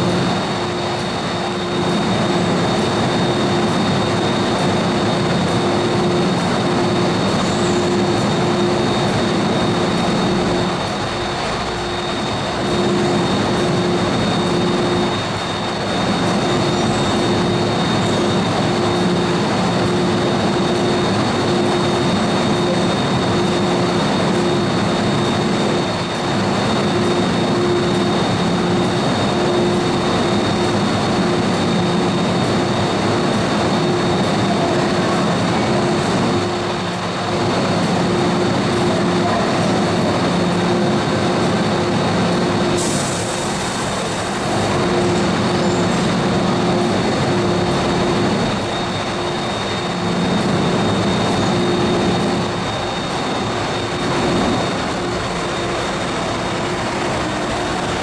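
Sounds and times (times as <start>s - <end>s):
electric train rumbling in tunnel: 0.0s - 58.0s.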